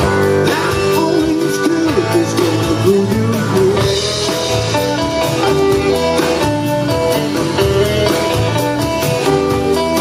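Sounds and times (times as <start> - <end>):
bass and drums: 0.0 - 10.0
guitar riff: 0.0 - 10.0.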